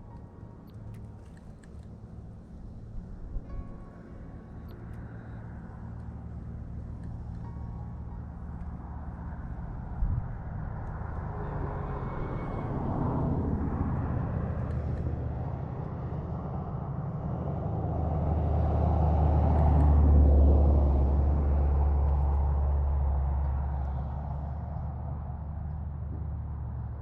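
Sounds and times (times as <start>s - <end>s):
passing engine rumble: 0.0s - 27.0s.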